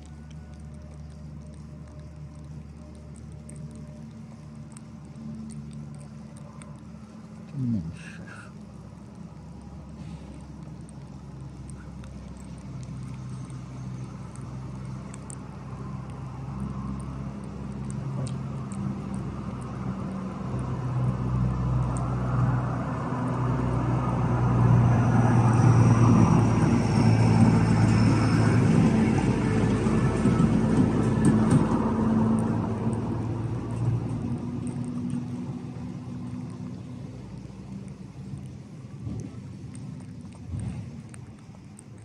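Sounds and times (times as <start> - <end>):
vehicle engine humming: 0.0 - 42.0.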